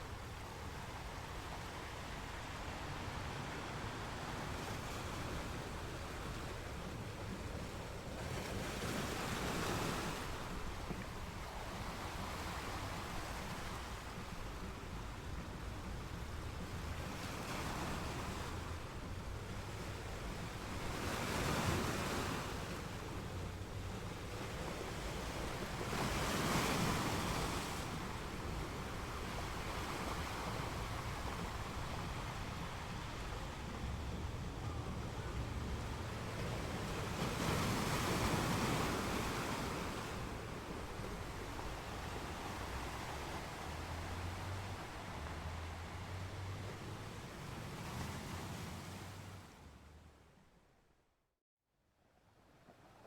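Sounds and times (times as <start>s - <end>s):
ocean waves washing in: 0.0s - 50.1s.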